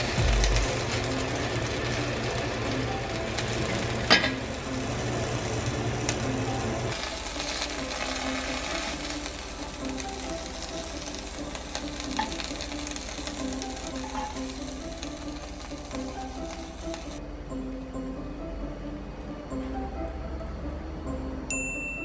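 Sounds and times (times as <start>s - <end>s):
light background music: 0.0s - 22.0s.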